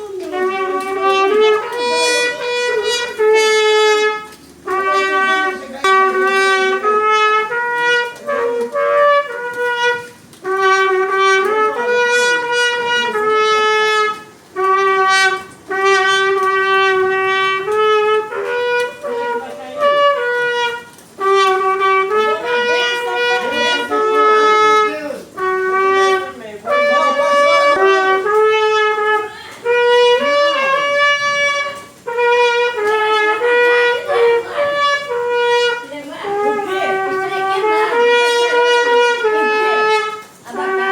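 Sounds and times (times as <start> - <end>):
trumpet playing slow melody: 0.0 - 40.9.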